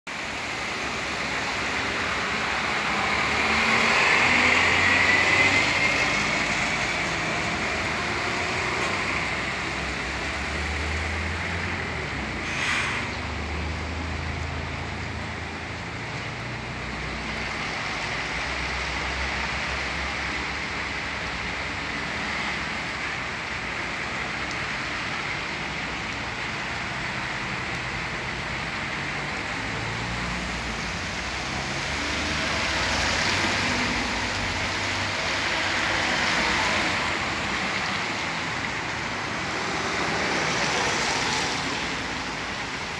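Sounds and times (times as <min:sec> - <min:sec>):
cars passing: 0:00.2 - 0:42.9.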